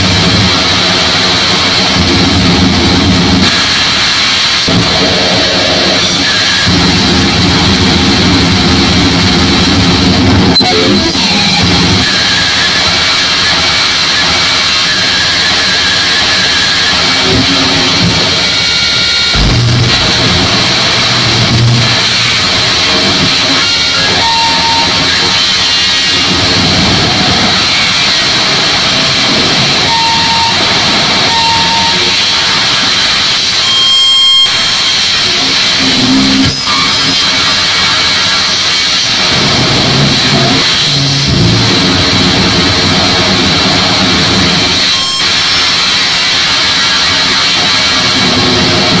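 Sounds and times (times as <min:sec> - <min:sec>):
harsh distorted noise music: 0:00.0 - 0:49.0
steady high whine: 0:00.0 - 0:49.0.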